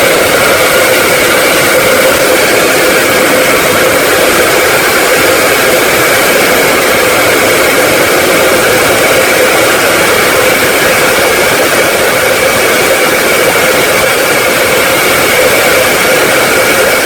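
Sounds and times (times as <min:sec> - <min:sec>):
electric hand dryer running: 0:00.0 - 0:17.0.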